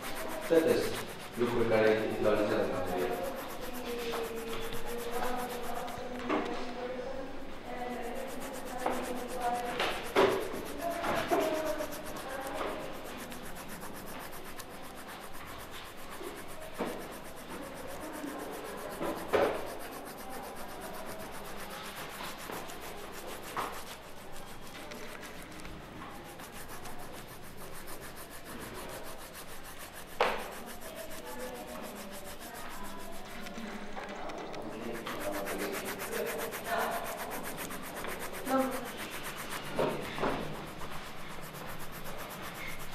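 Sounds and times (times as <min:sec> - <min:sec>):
rubbing and brushing noise: 0:00.0 - 0:42.9.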